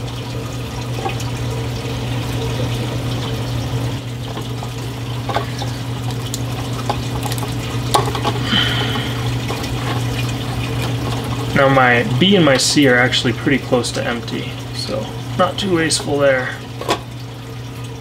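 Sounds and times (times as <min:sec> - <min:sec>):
circulating water: 0:00.0 - 0:18.0
low pump hum: 0:00.0 - 0:18.0.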